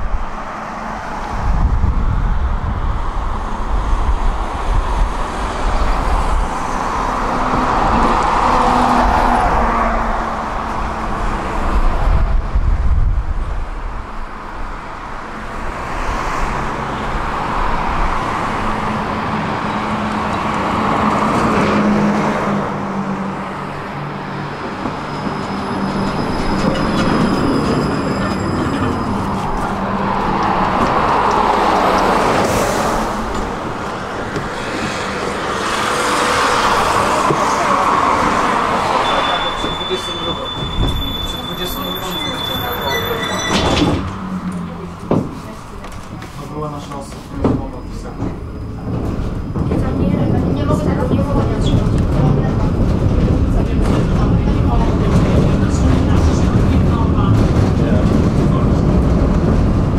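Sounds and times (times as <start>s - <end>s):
tram wheels rumbling on rails: 0.0s - 59.9s.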